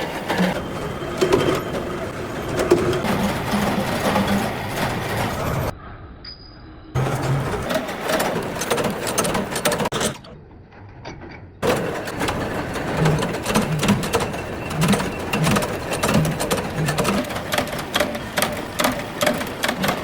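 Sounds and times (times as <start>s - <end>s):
machinery clattering with clicks: 0.0s - 5.7s, 7.0s - 20.0s
machine hum: 0.0s - 5.8s, 6.9s - 10.4s, 11.6s - 20.0s.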